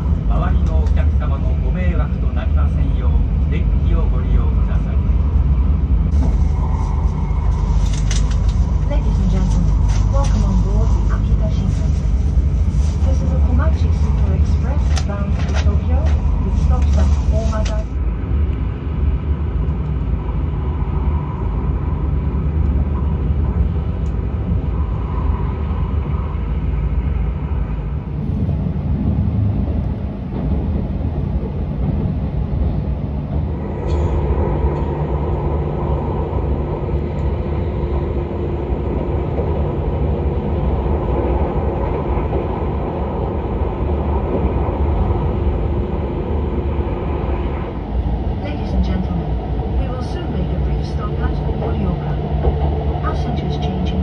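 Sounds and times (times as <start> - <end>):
steady hum: 0.0 - 54.0
train wheels rumbling on rails: 0.0 - 54.0.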